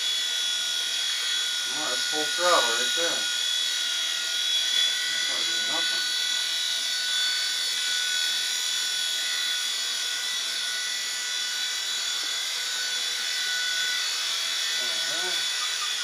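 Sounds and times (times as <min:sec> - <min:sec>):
rc helicopter motor whine: 0:00.0 - 0:16.0.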